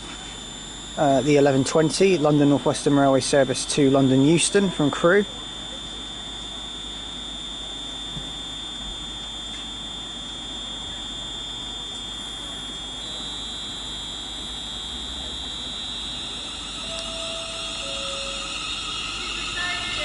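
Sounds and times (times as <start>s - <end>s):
high-pitched electrical whine: 0.0s - 20.0s.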